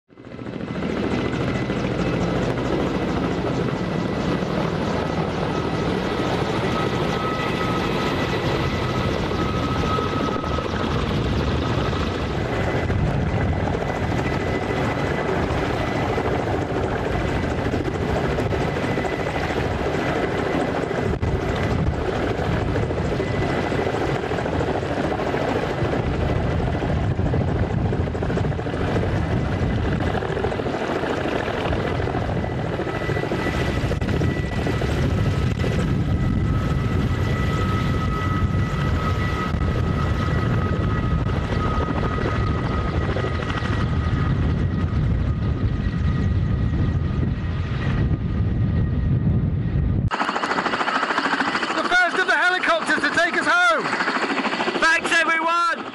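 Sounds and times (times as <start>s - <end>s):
helicopter rotor throbbing: 0.1s - 55.9s.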